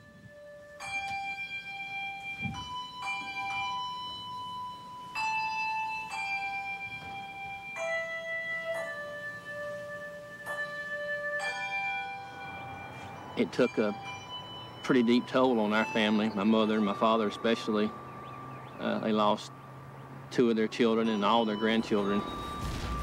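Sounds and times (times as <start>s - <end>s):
handbell choir ringing chords: 0.0s - 23.0s.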